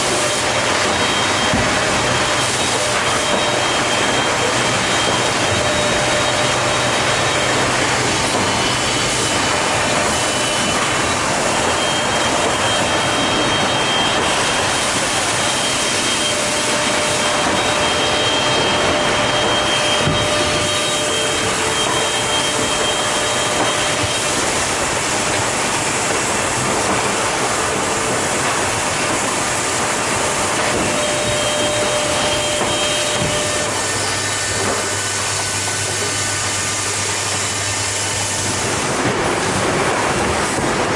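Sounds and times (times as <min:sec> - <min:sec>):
drilling machine whirring: 0:00.0 - 0:40.9.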